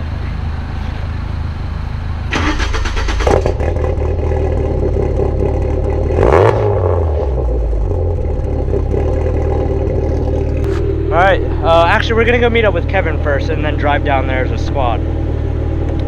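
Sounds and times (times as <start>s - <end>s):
car engine running: 0.0s - 16.0s
engine revving: 2.3s - 16.0s.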